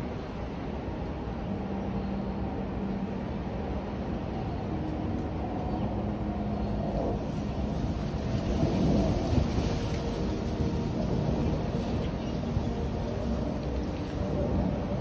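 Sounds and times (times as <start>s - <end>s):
wind blowing through tree: 0.0s - 15.0s
wind rumbling on microphone: 0.0s - 15.0s.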